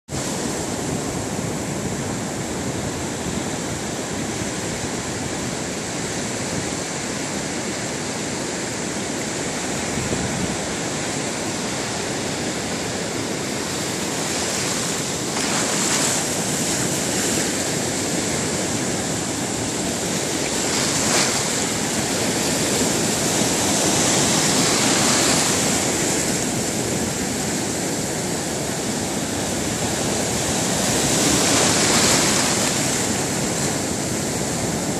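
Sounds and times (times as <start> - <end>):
sea surf breaking: 0.2 - 34.9.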